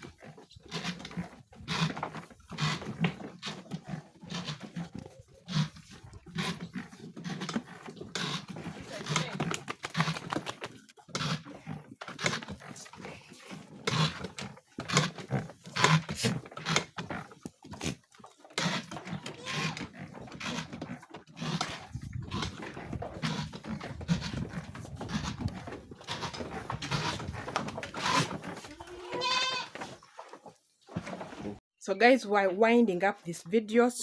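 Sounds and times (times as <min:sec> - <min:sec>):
goats knocking and scuffling: 0:00.0 - 0:31.6.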